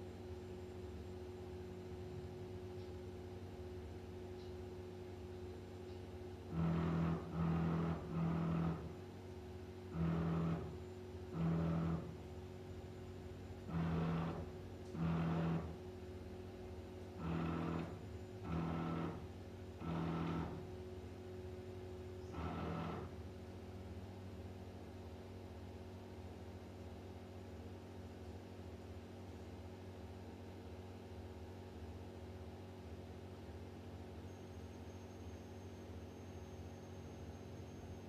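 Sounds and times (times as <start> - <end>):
fan hum: 0.0 - 38.0.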